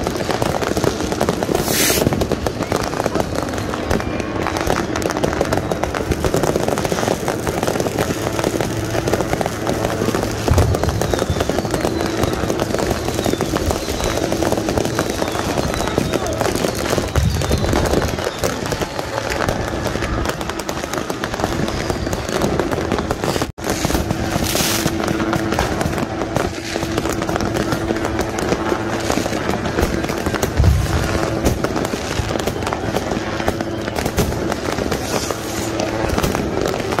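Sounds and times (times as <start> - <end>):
fireworks and firecrackers crackling: 0.0 - 37.0.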